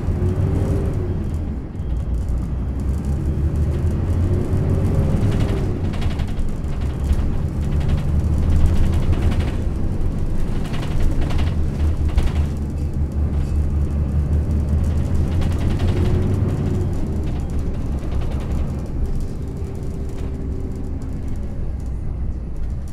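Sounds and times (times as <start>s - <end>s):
bus body rattling and knocking: 0.0s - 22.9s
bus engine droning: 0.0s - 22.9s.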